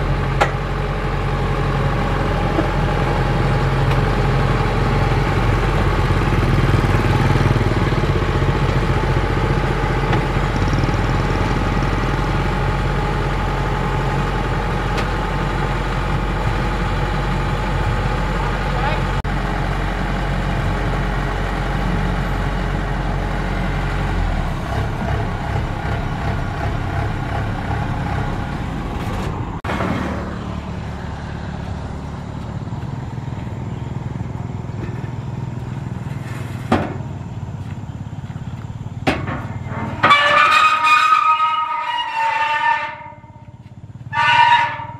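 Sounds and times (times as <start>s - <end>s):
combine harvester engine running: 0.0s - 44.9s.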